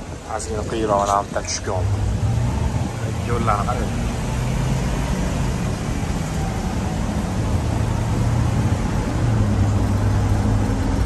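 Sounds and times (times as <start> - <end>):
road and wind noise: 0.0 - 11.0
van engine hum: 0.0 - 11.0.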